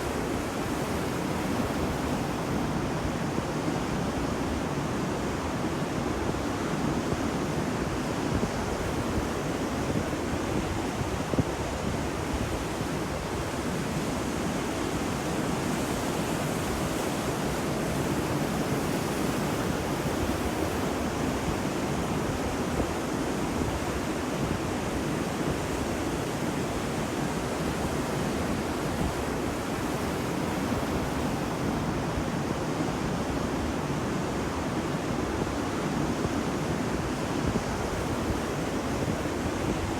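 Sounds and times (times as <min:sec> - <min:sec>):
ocean surf washing onto beach: 0:00.0 - 0:39.9
wind: 0:00.0 - 0:39.9.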